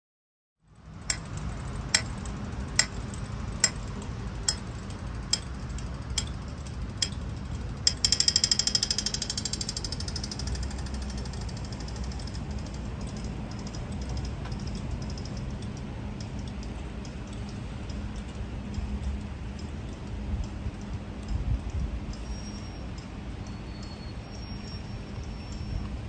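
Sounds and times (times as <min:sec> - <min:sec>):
low traffic hum: 0:00.6 - 0:26.0
crossing signal ticking: 0:00.8 - 0:26.0.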